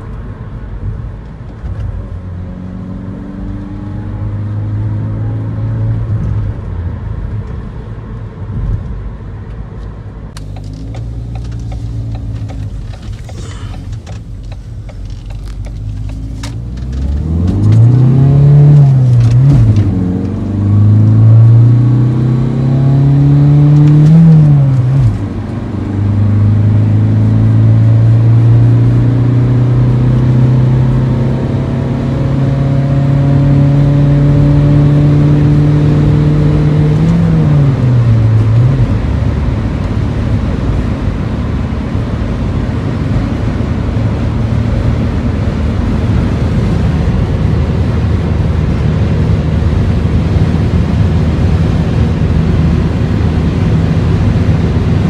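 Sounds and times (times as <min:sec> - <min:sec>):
van engine revving: 0:10.4 - 0:55.0.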